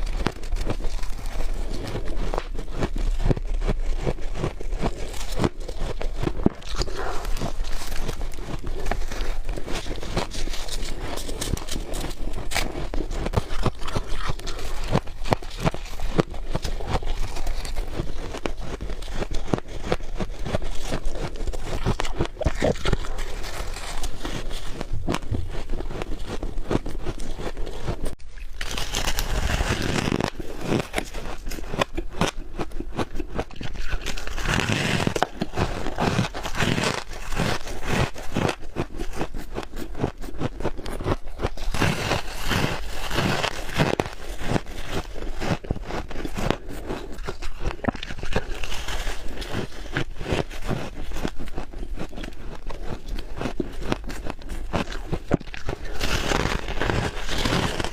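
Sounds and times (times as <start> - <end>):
chewing crunchy frost: 0.0 - 57.9.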